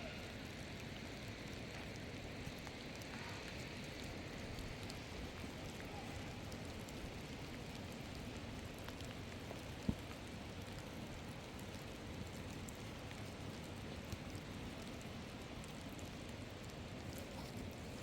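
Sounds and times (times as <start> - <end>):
faint ticks: 0.0 - 18.0.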